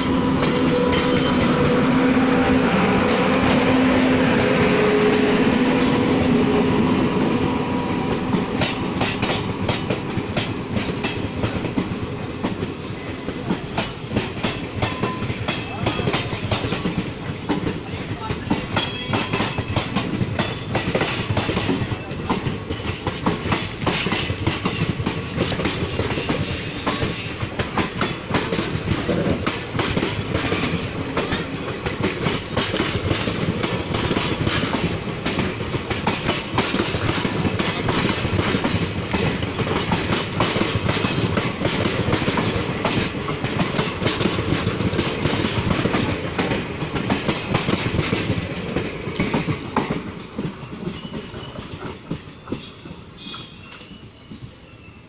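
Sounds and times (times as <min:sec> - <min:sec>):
train wheels clattering over joints: 0:00.0 - 0:54.7
rumble of passing train: 0:00.0 - 0:55.0.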